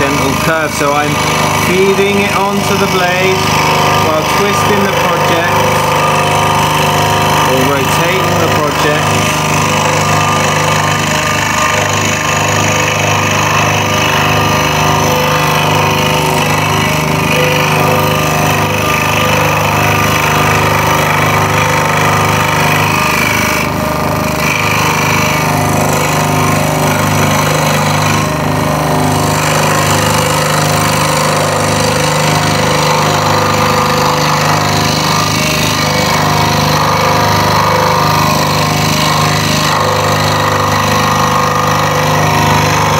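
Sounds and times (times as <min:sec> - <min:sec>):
scroll saw cutting wood: 0:00.0 - 0:42.9.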